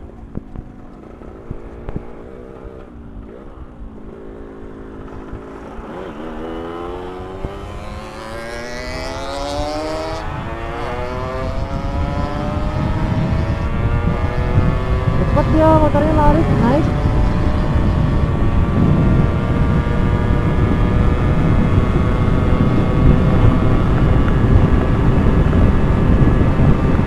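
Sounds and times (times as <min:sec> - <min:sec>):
motorcycle engine accelerating: 0:00.0 - 0:27.0
wind buffeting microphone: 0:00.0 - 0:27.0.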